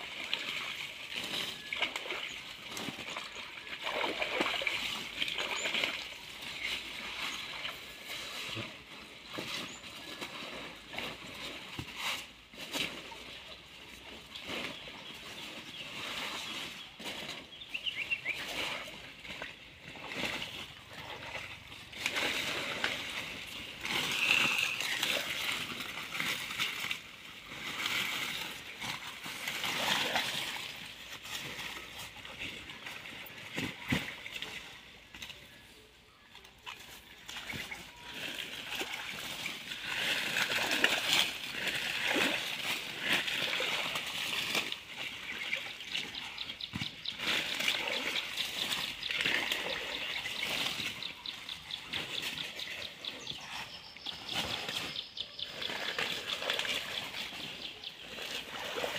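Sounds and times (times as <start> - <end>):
water splashing and sloshing: 0.0 - 58.9.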